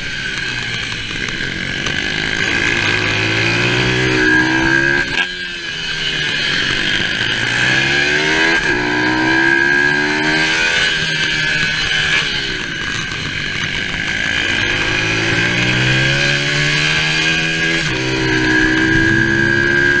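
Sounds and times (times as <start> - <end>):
gear change: 0.0 - 20.0
motorbike engine revving: 0.0 - 20.0.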